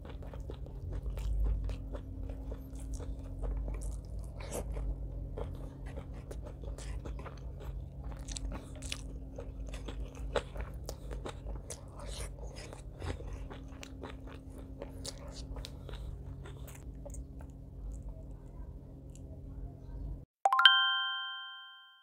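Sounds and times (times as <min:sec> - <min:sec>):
chewing and mouth sounds: 0:00.0 - 0:20.0
low steady hum: 0:00.0 - 0:21.6.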